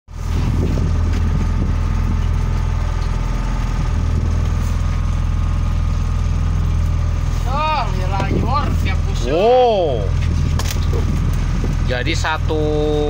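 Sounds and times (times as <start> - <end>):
boat engine humming: 0.1 - 13.0.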